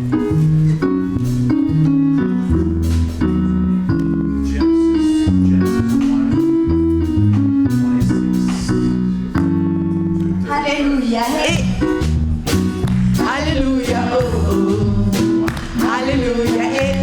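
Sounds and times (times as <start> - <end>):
bass line: 0.0 - 17.0
guitar: 0.0 - 17.0.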